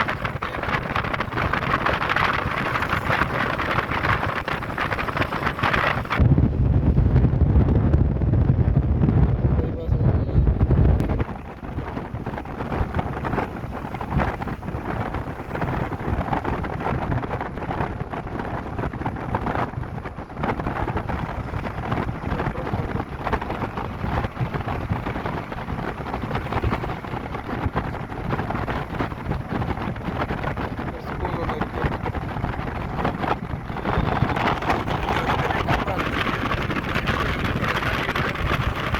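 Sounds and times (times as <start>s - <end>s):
vehicle road noise: 0.0s - 38.9s
wind buffeting microphone: 0.0s - 38.9s.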